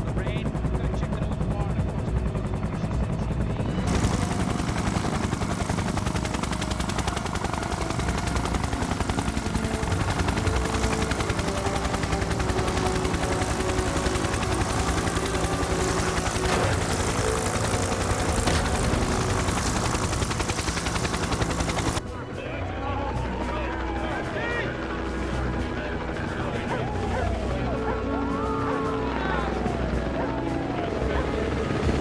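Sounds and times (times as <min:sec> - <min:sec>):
helicopter rotor chop: 0:00.0 - 0:32.0.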